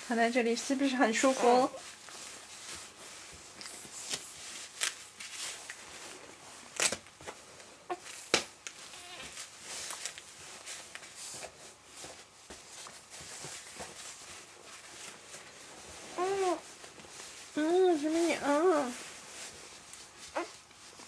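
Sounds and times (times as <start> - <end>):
baby clothes rustling: 0.0 - 21.0.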